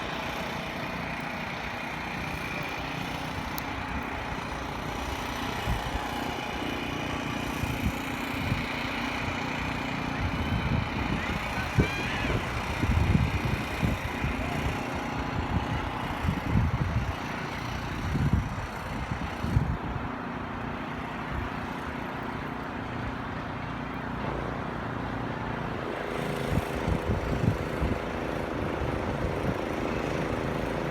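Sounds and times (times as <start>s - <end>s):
low engine hum: 0.0s - 30.9s
vehicles running: 0.0s - 30.9s.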